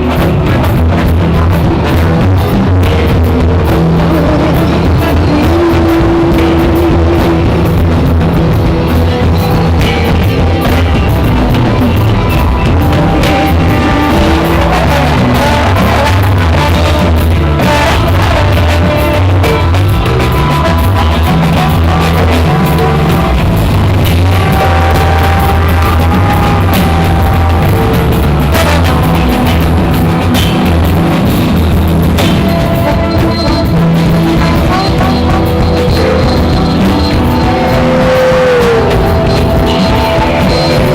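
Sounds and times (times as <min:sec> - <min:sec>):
drum kit: 0:00.0 - 0:40.9
heavy bass: 0:00.0 - 0:40.9
live rock band jamming: 0:00.0 - 0:40.9.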